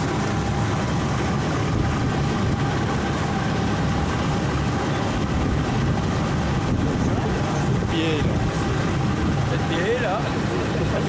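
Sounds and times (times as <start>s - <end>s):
motorboat engine running: 0.0s - 11.0s
water rushing from wake: 0.0s - 11.0s.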